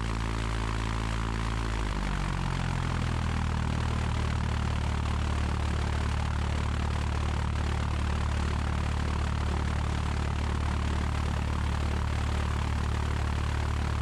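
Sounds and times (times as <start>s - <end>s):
propeller plane engine idling: 0.0s - 14.0s.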